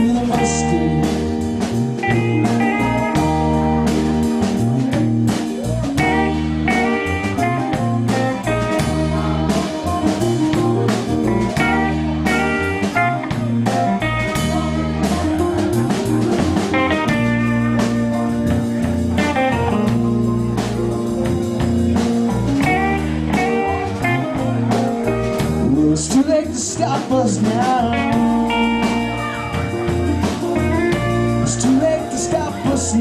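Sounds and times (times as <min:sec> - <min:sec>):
bass guitar: 0:00.0 - 0:33.0
drum kit: 0:00.0 - 0:33.0
lead guitar melody: 0:00.0 - 0:33.0.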